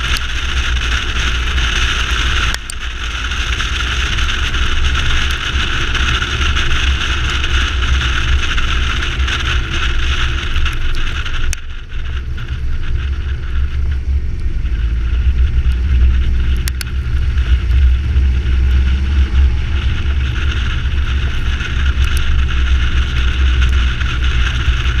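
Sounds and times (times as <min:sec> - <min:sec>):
car engine rumble: 0:00.0 - 0:25.0
road and wind noise: 0:00.0 - 0:25.0.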